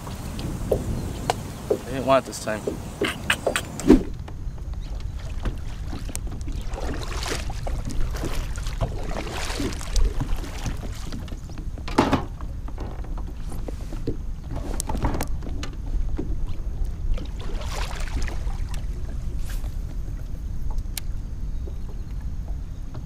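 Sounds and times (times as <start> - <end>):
paddle splashing in water: 0.0 - 20.9
wind rumble on microphone: 0.0 - 23.0.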